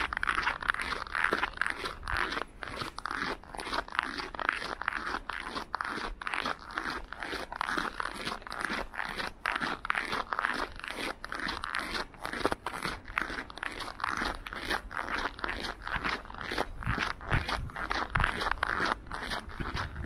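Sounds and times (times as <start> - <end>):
footsteps crunching on snow: 0.0 - 20.0.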